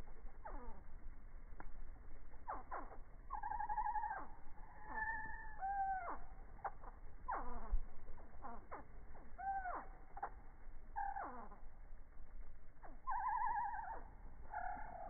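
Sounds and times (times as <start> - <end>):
slowed hummingbird calls: 0.0 - 15.0.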